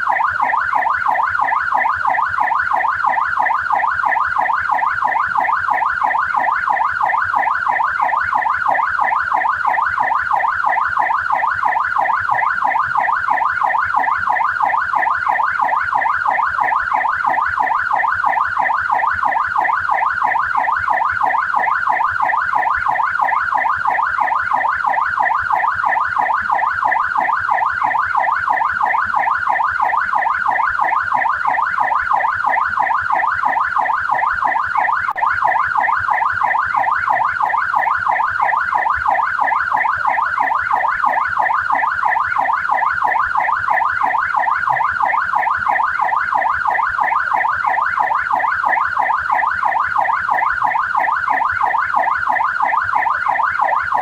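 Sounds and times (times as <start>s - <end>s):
police siren yelping: 0.0s - 54.0s.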